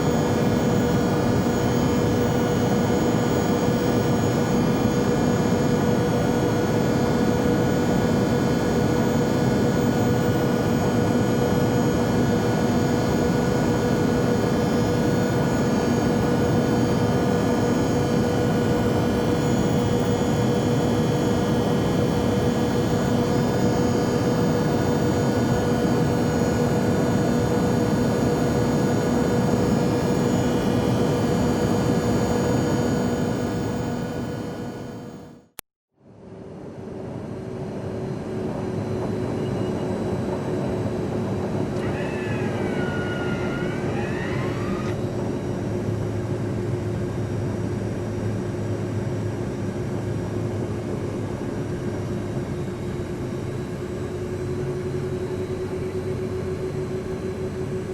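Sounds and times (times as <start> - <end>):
jet engine drone: 0.0 - 57.9.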